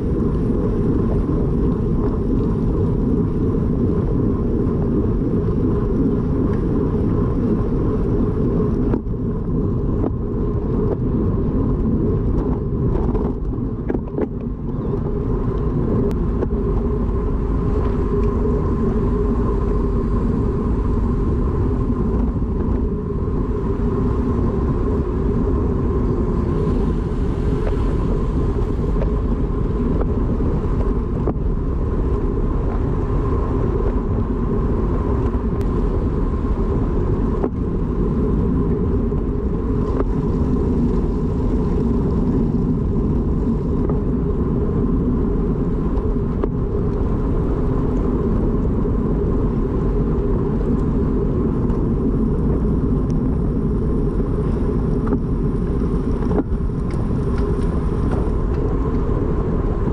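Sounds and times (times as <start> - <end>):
wind and road noise rumble: 0.0 - 59.9.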